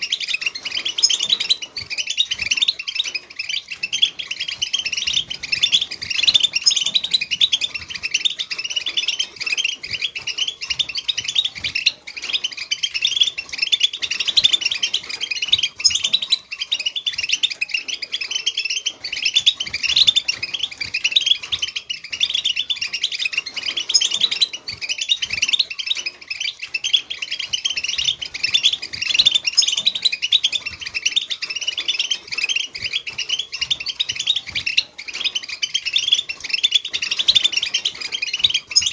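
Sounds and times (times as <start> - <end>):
goldfinches twittering: 0.0 - 38.9.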